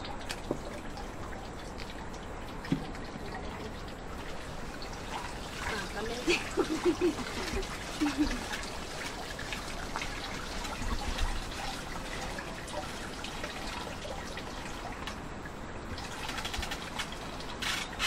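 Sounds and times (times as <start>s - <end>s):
water trickling and dripping: 0.0s - 18.0s.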